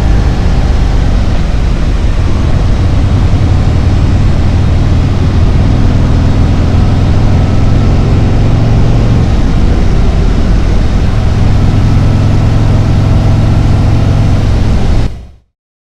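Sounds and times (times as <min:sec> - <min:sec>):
wind and road noise: 0:00.0 - 0:15.4
motorcycle engine running: 0:00.0 - 0:15.5.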